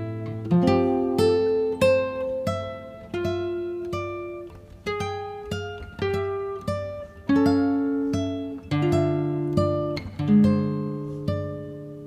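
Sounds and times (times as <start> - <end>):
guitar picking notes: 0.0 - 12.0.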